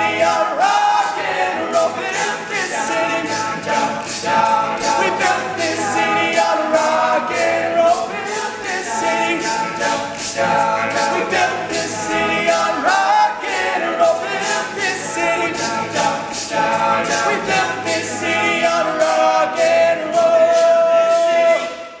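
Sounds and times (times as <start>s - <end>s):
lead voice singing: 0.0s - 22.0s
male a cappella group singing: 0.0s - 22.0s
steady vocal beat: 0.0s - 22.0s.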